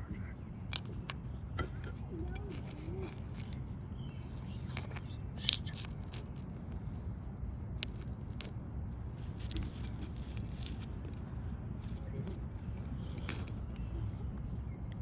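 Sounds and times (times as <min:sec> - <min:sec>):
steady low rumble: 0:00.0 - 0:15.0
small objects scraping and rattling: 0:00.6 - 0:14.6.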